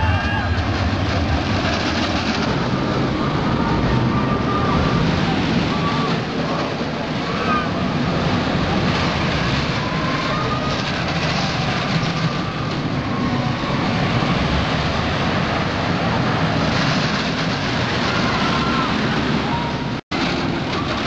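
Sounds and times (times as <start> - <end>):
roller coaster train on track: 0.0 - 21.0.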